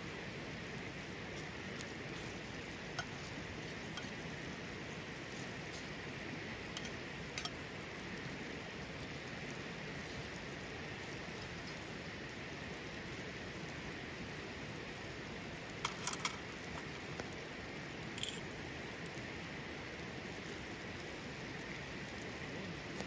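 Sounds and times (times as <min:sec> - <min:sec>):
steady hiss like rain: 0:00.0 - 0:23.0.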